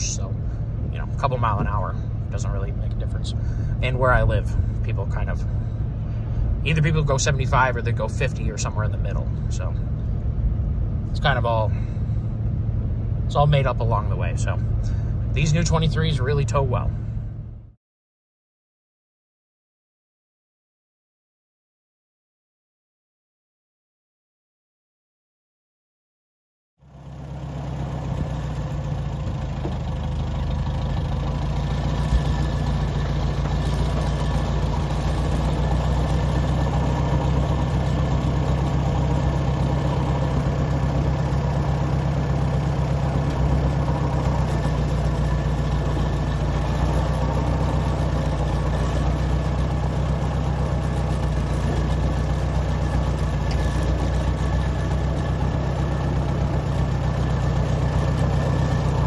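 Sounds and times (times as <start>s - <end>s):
tractor engine idling: 0.0s - 17.6s, 26.8s - 59.0s.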